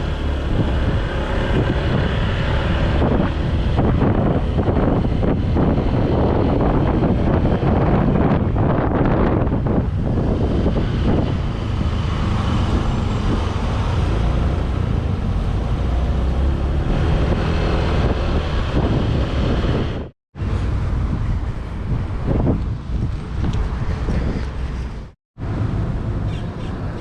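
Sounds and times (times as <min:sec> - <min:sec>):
wind buffeting microphone: 0:00.0 - 0:26.2.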